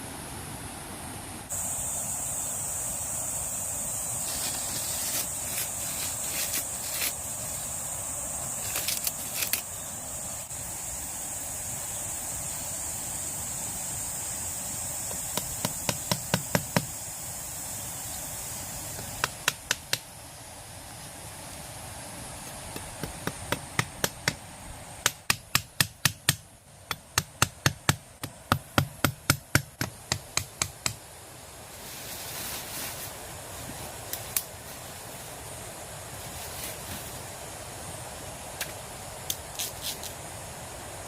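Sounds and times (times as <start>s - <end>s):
steady high hiss: 0.0s - 41.0s.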